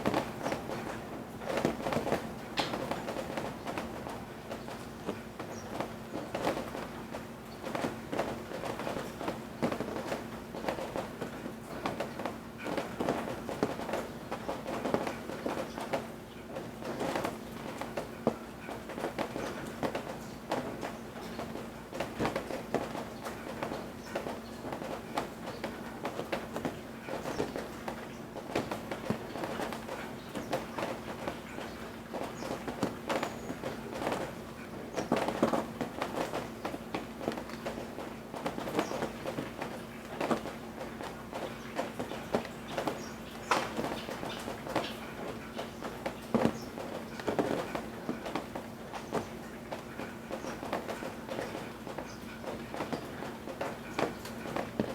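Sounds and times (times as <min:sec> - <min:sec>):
rain dripping from eaves: 0:00.0 - 0:54.9.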